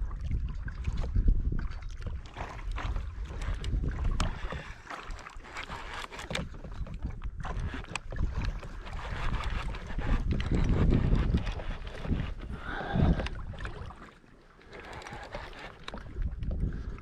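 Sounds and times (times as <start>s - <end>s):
wind rumbling on microphone: 0.0s - 14.0s, 14.8s - 17.0s
water splashing against kayak: 0.0s - 17.0s.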